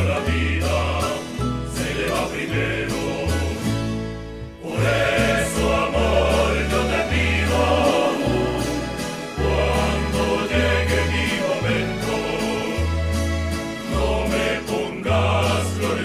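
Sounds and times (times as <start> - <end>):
bass line: 0.0 - 16.0
group of voices singing: 0.0 - 16.0
plucked string ensemble: 0.0 - 16.0.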